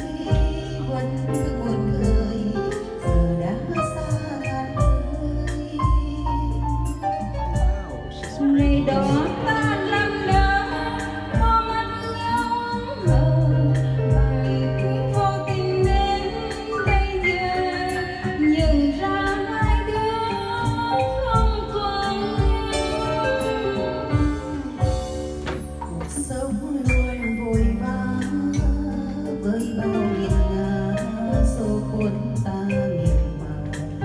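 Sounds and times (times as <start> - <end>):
backing track with steady beat: 0.0 - 34.0
women singing into microphones: 0.0 - 34.0.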